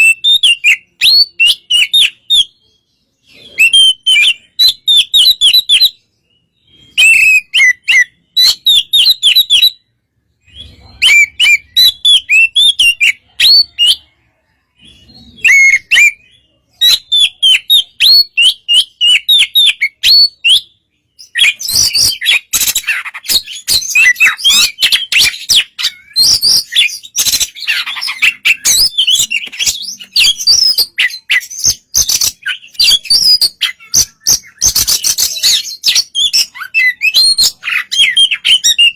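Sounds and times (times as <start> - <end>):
bird singing chirps and whistles: 0.0 - 38.9.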